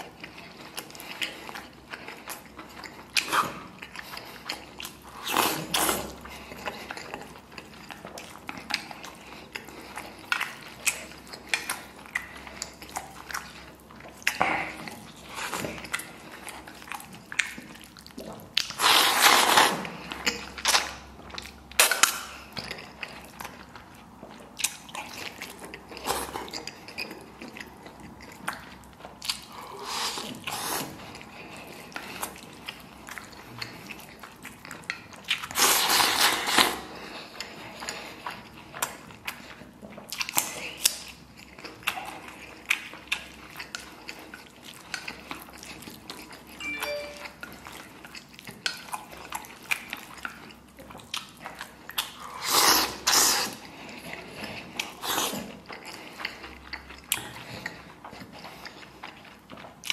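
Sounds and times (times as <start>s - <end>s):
wet chewing and slurping: 0.0s - 59.9s.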